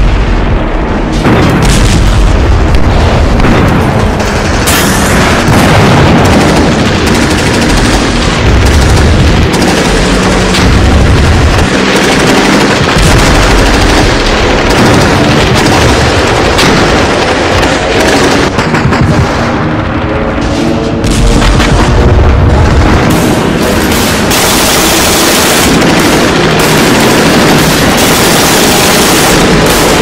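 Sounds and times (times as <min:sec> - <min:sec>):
continuous gunfire: 0:00.0 - 0:30.0
explosions booming: 0:00.0 - 0:30.0.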